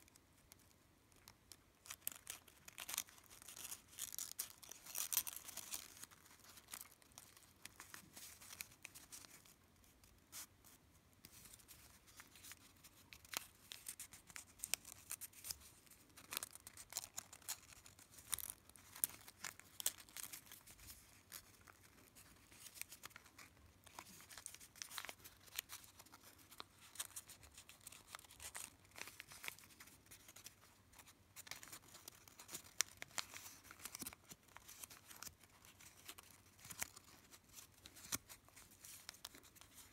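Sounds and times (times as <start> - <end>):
paper rustling and crinkling: 1.8 - 39.9.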